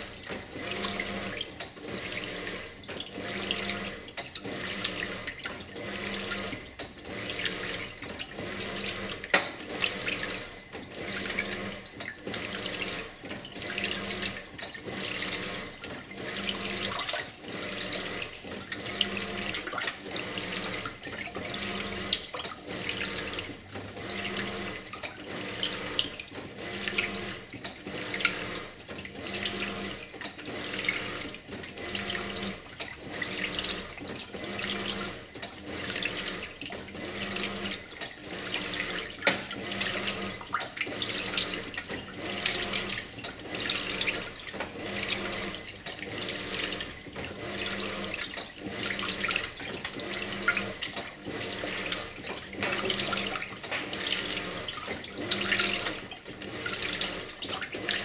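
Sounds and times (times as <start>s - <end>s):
washing machine churning water: 0.0s - 58.0s.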